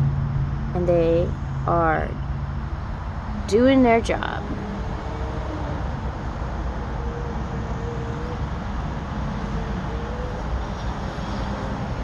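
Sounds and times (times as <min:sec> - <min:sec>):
faint wavering hum: 0:00.0 - 0:12.0
low rumble and hiss: 0:00.0 - 0:12.0.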